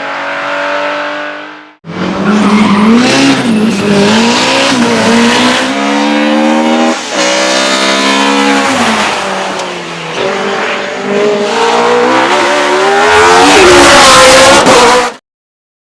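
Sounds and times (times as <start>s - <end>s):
racing engine revving: 0.0s - 15.2s.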